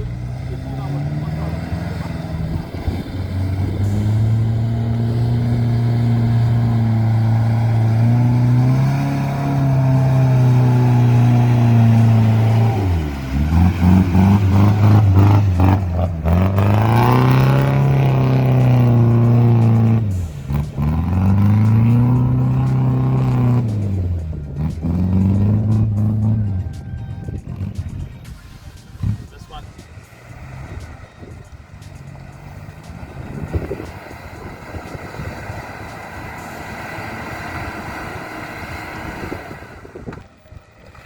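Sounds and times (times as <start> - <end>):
off-road engine revving hard: 0.0 - 41.0.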